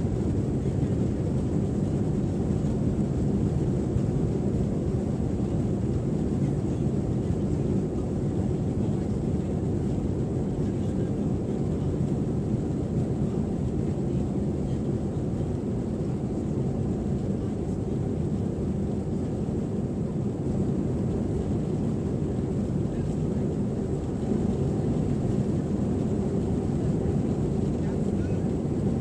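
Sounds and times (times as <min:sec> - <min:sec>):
aircraft cabin engine rumble: 0:00.0 - 0:29.0.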